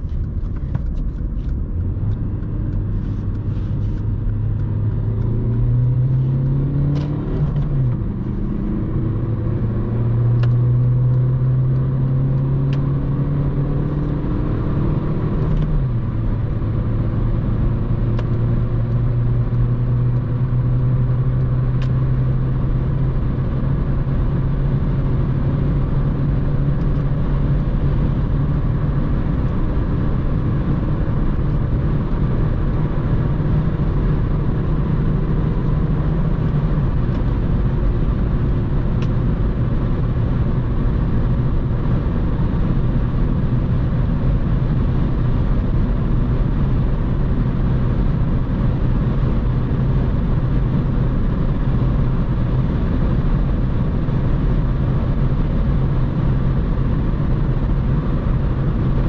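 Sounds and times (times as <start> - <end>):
car engine droning under load: 0.0 - 59.0.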